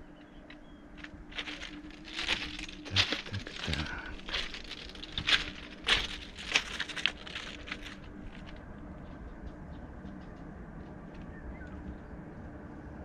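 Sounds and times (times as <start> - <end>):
faint steady hum: 0.0 - 13.0
footsteps crunching on ballast: 0.2 - 12.1.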